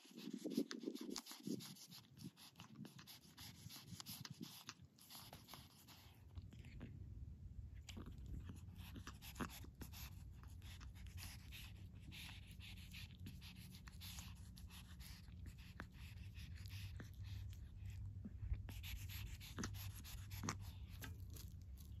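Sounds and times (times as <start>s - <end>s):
kitten lapping milk: 0.0s - 22.0s.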